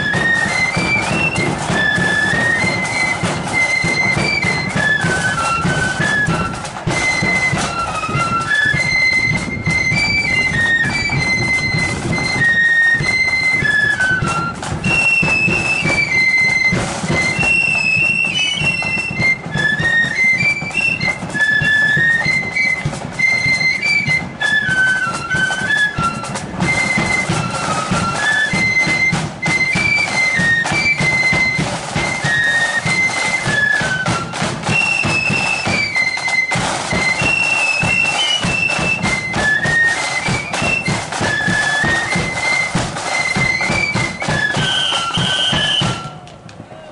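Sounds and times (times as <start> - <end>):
flute band playing: 0.0 - 46.9
steady drum beat: 0.0 - 46.9.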